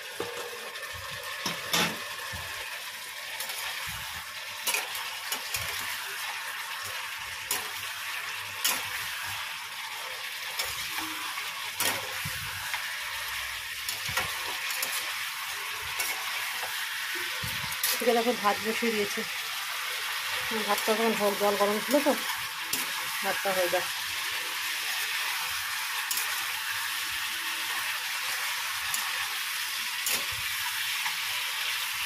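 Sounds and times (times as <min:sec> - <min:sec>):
fish and potatoes sizzling in pan: 0:00.0 - 0:32.0.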